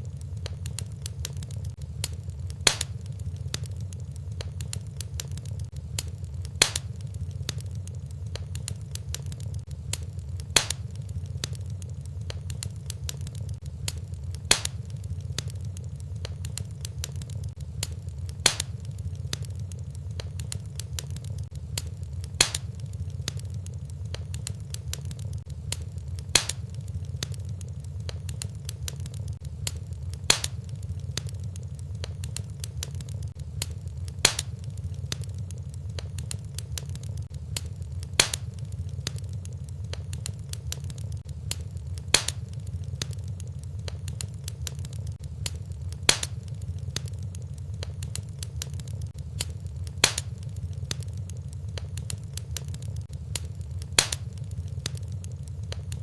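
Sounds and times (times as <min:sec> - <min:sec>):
fire crackling: 0:00.0 - 0:56.0
fire low rumble: 0:00.0 - 0:56.0
fire popping: 0:00.0 - 0:56.0.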